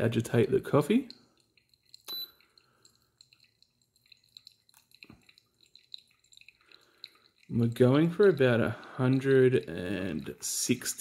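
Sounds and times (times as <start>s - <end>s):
water dripping on coffee grounds: 0.0s - 11.0s.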